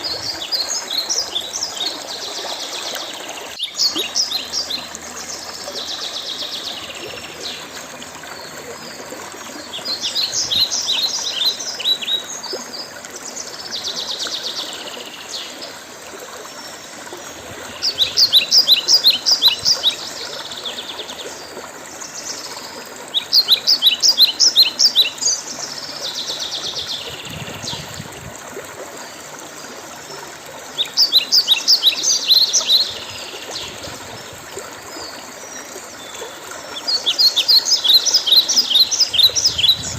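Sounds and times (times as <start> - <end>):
songbird singing: 0.0 - 15.8, 16.5 - 28.2, 30.1 - 39.9.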